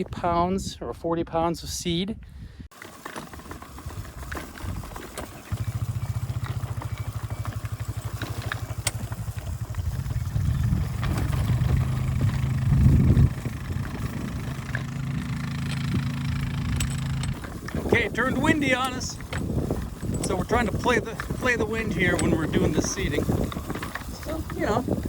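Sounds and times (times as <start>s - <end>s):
small engine running: 2.7s - 25.0s.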